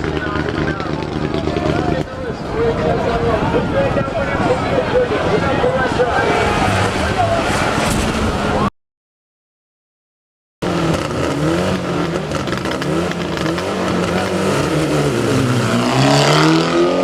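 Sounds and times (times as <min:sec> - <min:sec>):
rally car engine accelerating: 0:00.0 - 0:08.7, 0:10.6 - 0:17.0.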